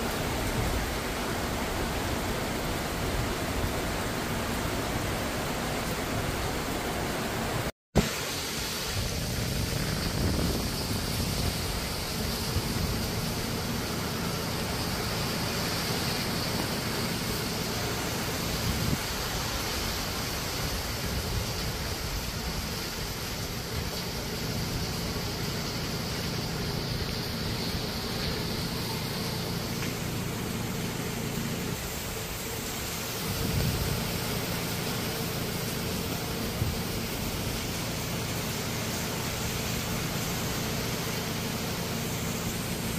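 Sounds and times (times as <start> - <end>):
heavy rain on foliage: 0.0 - 42.9.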